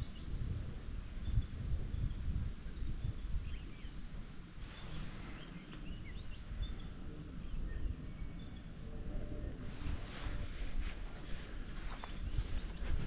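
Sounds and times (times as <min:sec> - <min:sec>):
wind noise rumble: 0:00.0 - 0:13.0
small birds chirping: 0:01.2 - 0:08.8, 0:09.6 - 0:13.0.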